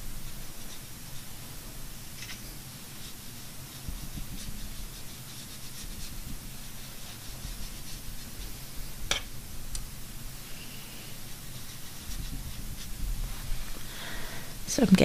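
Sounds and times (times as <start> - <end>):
paintbrush scratching on paper: 0.2 - 9.0, 10.4 - 13.7.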